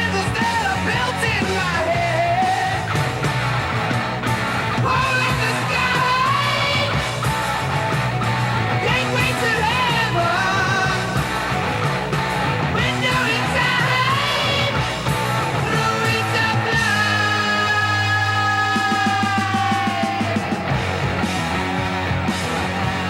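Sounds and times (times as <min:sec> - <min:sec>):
rock song with singing: 0:00.0 - 0:23.0.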